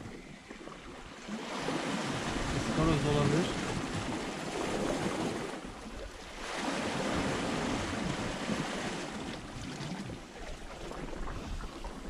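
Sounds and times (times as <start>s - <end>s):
sea washing against rocky shore: 0.0s - 12.0s
wind buffeting microphone: 0.0s - 12.0s.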